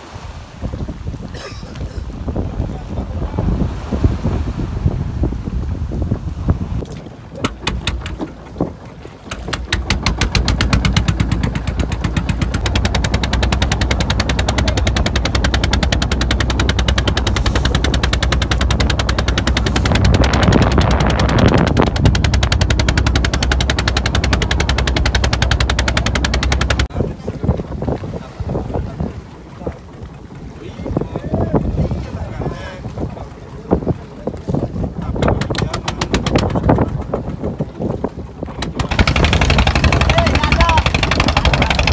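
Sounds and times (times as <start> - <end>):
boat diesel engine knocking: 7.2 - 41.9.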